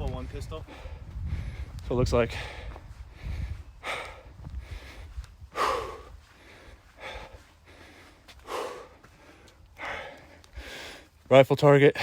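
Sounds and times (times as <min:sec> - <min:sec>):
man breathing hard: 0:00.6 - 0:11.2.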